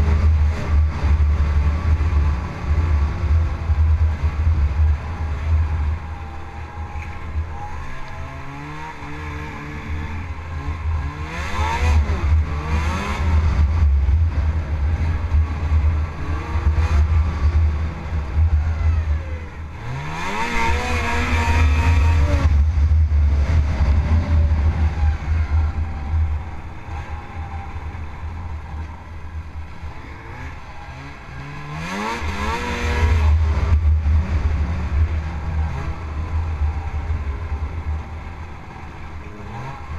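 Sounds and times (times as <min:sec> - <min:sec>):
snowmobile engine revving: 0:00.0 - 0:28.0, 0:29.7 - 0:39.9.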